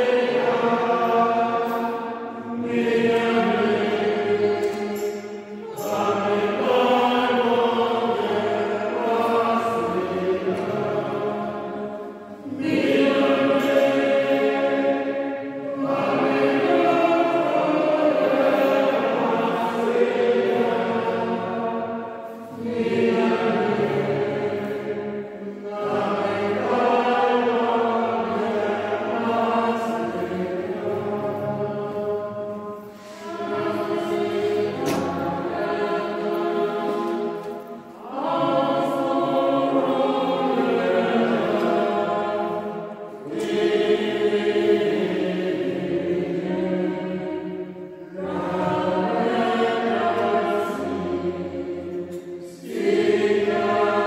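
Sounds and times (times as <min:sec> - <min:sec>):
group singing a hymn: 0:00.0 - 0:54.0.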